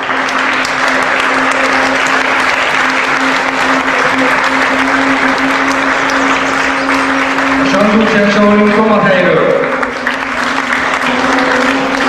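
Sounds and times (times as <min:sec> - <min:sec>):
audience applauding: 0:00.0 - 0:12.0
low hum: 0:00.0 - 0:12.0.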